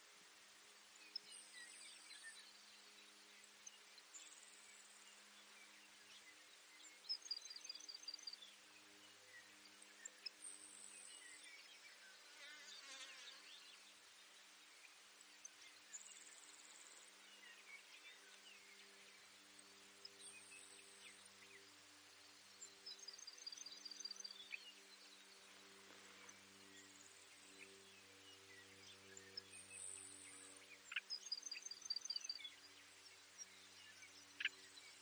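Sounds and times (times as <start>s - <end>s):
sparrow song: 0.0s - 35.0s.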